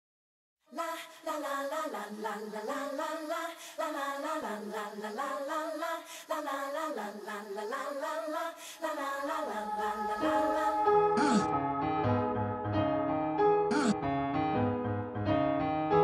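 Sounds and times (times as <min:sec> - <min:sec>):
unaccompanied voices singing: 0:00.7 - 0:14.0.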